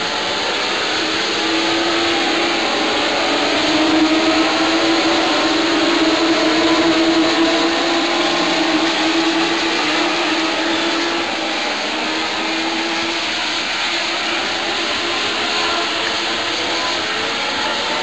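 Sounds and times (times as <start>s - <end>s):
race car engines: 0.0s - 18.0s.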